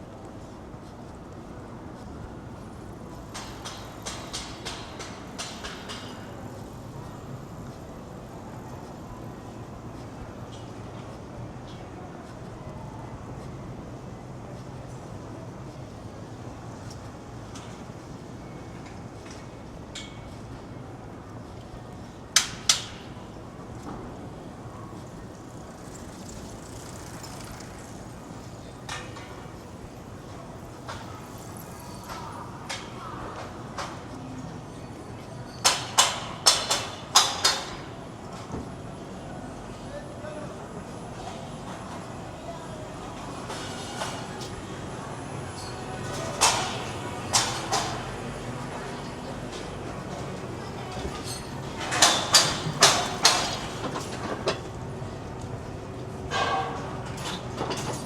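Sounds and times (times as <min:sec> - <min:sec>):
low city street rumble: 0:00.0 - 0:58.0.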